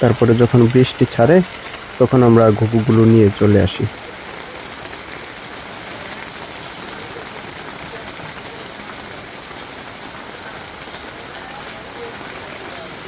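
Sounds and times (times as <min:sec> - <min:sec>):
steady rain-like hiss: 0:00.0 - 0:13.0.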